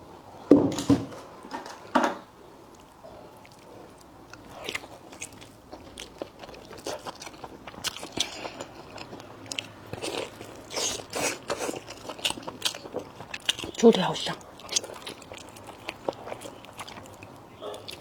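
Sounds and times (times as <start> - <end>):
person chewing crunchy food: 2.6 - 18.0.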